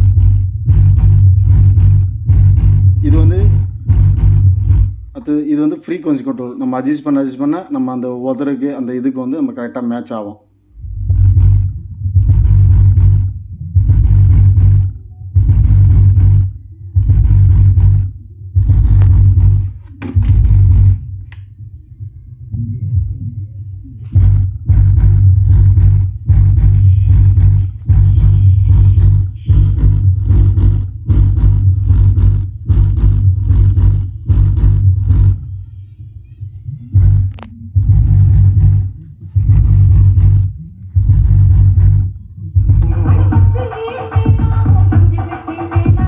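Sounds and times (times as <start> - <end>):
subwoofer playing deep bass: 0.0 - 6.2, 10.7 - 46.0.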